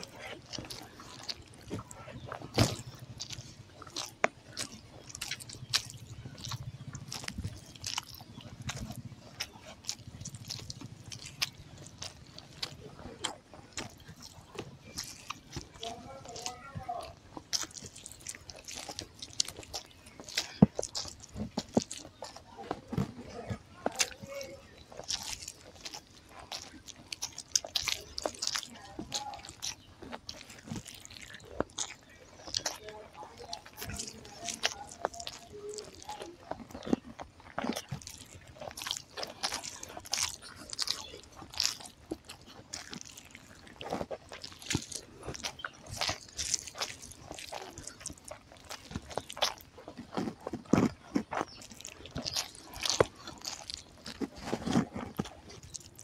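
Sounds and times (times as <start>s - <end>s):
chewing and mouth smacks: 0.0s - 56.0s
rice squishing by hand: 0.0s - 56.0s.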